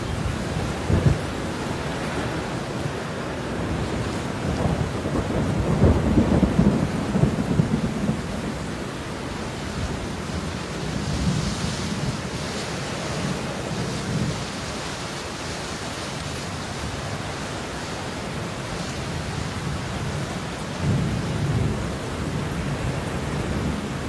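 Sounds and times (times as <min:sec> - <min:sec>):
thunder rumbling: 0:00.0 - 0:14.8, 0:18.3 - 0:24.0
steady rain falling: 0:00.0 - 0:24.0.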